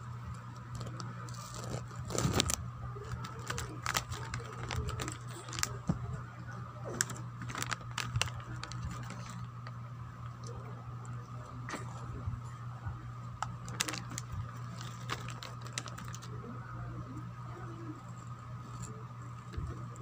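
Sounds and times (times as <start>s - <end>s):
steady low hum: 0.0s - 20.0s
crinkling noises: 0.1s - 20.0s.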